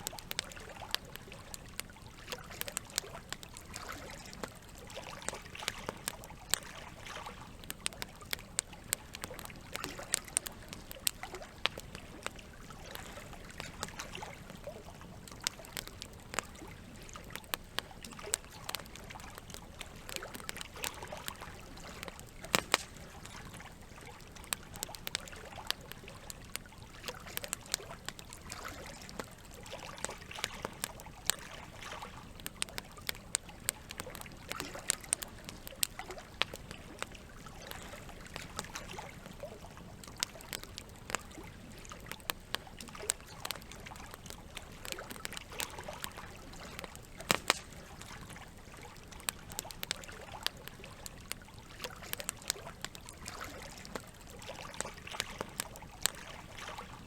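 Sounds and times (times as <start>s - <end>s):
campfire crackling and popping: 0.0s - 57.0s
flowing water trickling: 0.0s - 57.0s.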